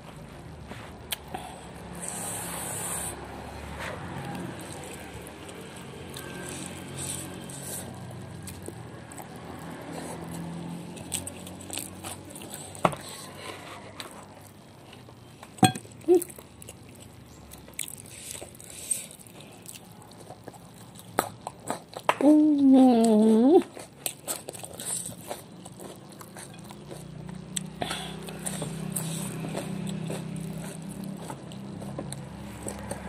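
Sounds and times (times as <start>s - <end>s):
person chewing food: 0.1s - 33.0s
sharp crunches and clicks: 4.2s - 13.1s, 14.0s - 33.0s.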